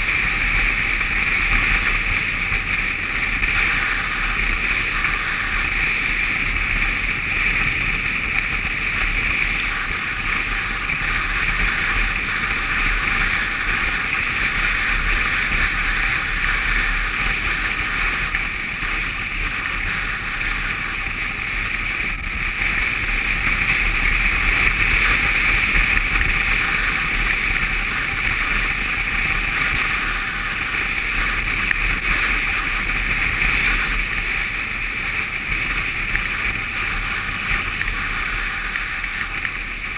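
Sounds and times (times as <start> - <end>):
motorcycle engine: 0.0 - 39.9
wind rushing over camera: 0.0 - 39.9.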